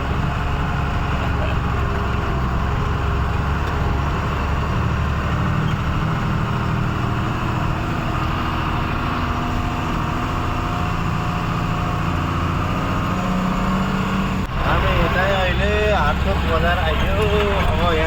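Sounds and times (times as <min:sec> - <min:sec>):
road noise: 0:00.0 - 0:18.0
truck engine droning: 0:00.0 - 0:18.0.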